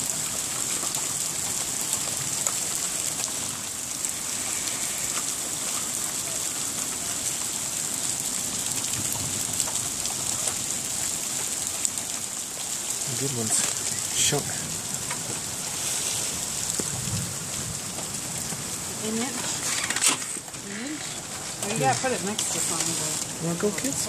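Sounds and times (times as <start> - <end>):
hail and rain pattering: 0.0 - 24.0
hailstones ticking: 0.0 - 24.0.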